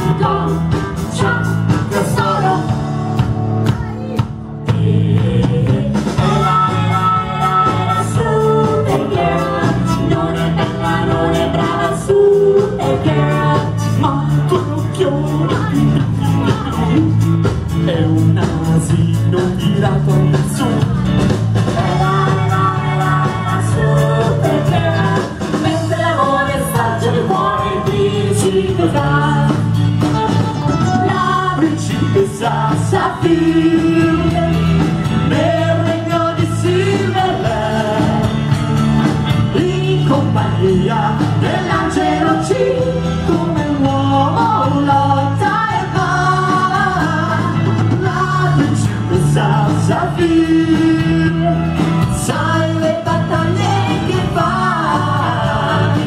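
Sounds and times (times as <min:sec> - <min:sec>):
bass guitar: 0:00.0 - 0:56.0
drum kit: 0:00.0 - 0:56.0
electric guitar: 0:00.0 - 0:56.0
person singing: 0:03.8 - 0:21.2, 0:21.8 - 0:38.5, 0:39.4 - 0:56.0.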